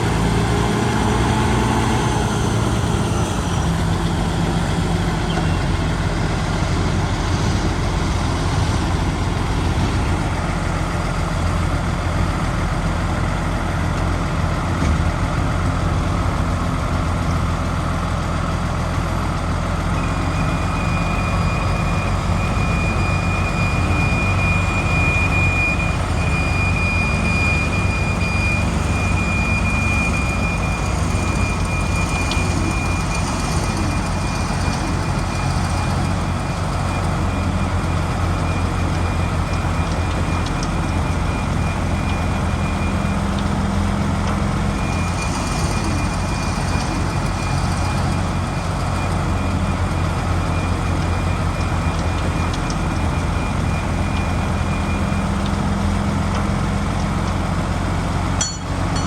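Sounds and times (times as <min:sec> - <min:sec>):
bulldozer engine drone: 0:00.0 - 0:59.0
high machinery whine: 0:00.0 - 0:59.0.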